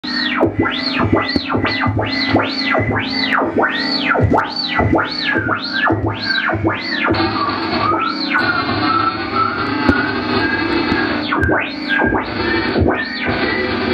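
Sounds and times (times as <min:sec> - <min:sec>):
low synth drone: 0:00.0 - 0:13.9
pulsing bass hum: 0:00.0 - 0:13.9
synthesizer pitch sweeps: 0:00.0 - 0:13.9.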